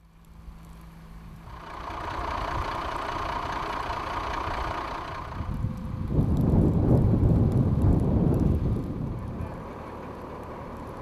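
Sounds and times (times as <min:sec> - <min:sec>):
fire engine engine running: 0:00.0 - 0:11.0.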